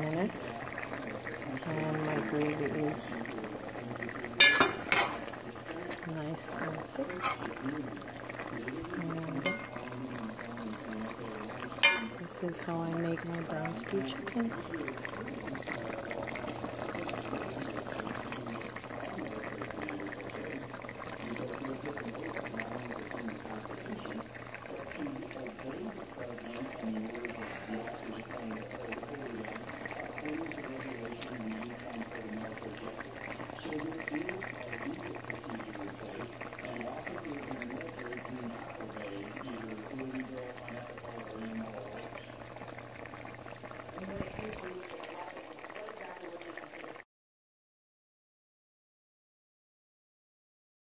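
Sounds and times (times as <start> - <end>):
stew bubbling in a pot: 0.0 - 47.0.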